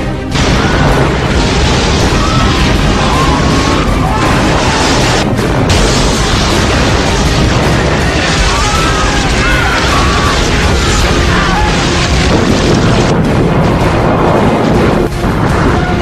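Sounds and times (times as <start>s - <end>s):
continuous rumbling roar: 0.0s - 16.0s
music: 0.0s - 16.0s.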